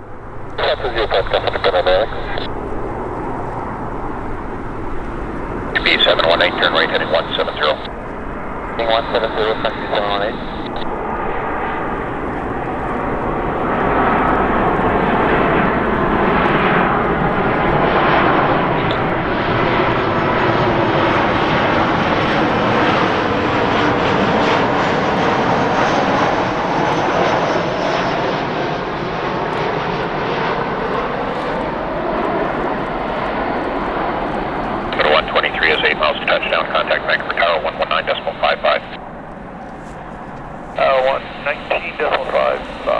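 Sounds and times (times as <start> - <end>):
jet airliner passing: 0.0 - 42.9.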